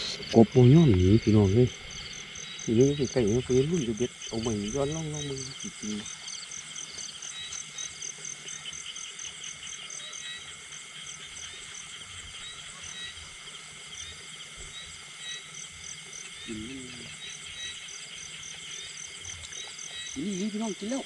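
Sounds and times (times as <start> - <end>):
crickets trilling: 0.0 - 21.0
insect pulsing: 0.0 - 21.0
thin insect whine: 0.0 - 21.0.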